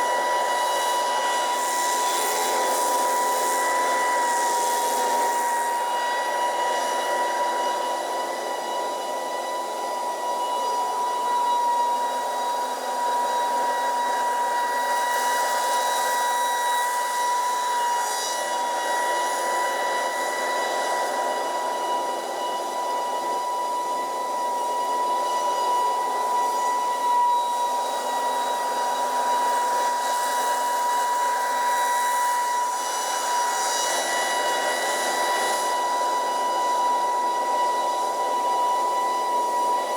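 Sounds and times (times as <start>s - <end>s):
leaf blower whine: 0.0s - 39.9s.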